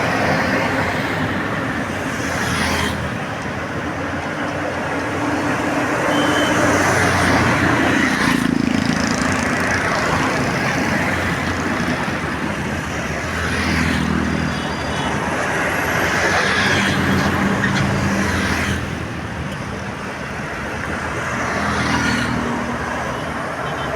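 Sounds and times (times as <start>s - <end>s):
buses passing: 0.0s - 23.9s
tyre and road noise: 0.0s - 23.9s.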